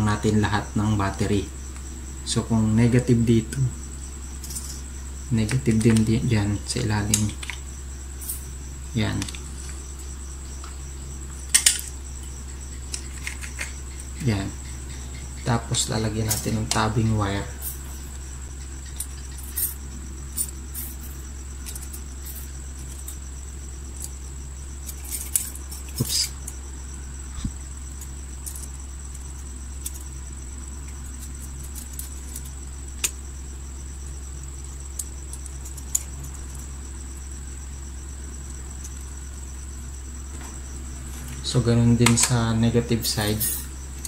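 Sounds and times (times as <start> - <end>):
low hum with high whine: 0.0 - 44.0.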